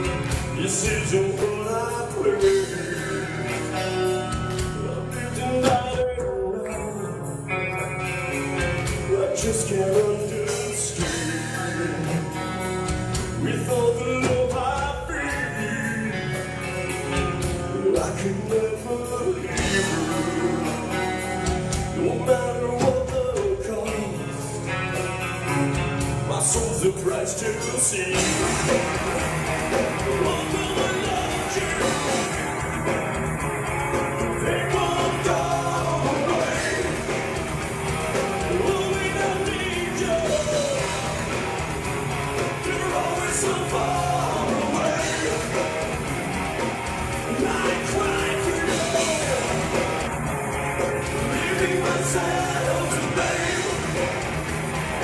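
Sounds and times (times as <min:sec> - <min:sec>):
male lead vocal singing: 0:00.0 - 0:07.6, 0:08.8 - 0:12.7, 0:13.4 - 0:24.8, 0:26.2 - 0:32.6, 0:34.2 - 0:41.4, 0:42.3 - 0:50.0, 0:50.8 - 0:55.0
bass guitar: 0:00.0 - 0:55.0
distorted electric guitars: 0:00.0 - 0:55.0
drums: 0:00.0 - 0:55.0.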